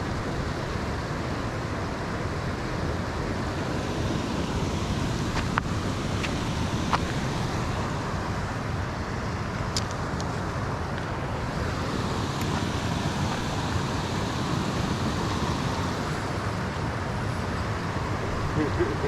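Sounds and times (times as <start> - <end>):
steady rushing outdoor noise: 0.0 - 19.0.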